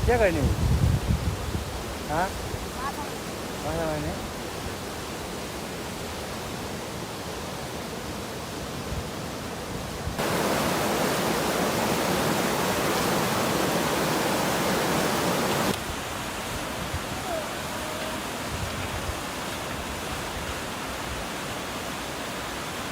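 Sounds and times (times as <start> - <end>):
hiss of running water: 0.0 - 22.9.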